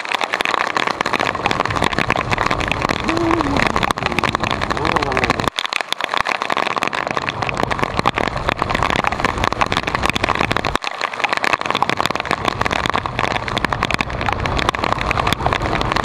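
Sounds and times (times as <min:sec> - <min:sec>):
tyres on wet road: 0:00.0 - 0:16.0
wind and rain on microphone: 0:00.0 - 0:16.0.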